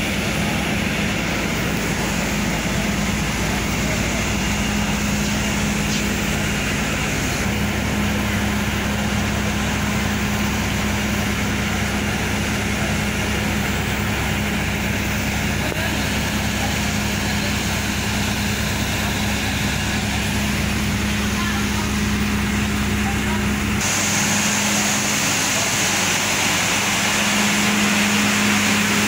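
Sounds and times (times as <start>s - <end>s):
constant low hum: 0.0s - 28.1s
train machinery drone: 0.0s - 29.0s.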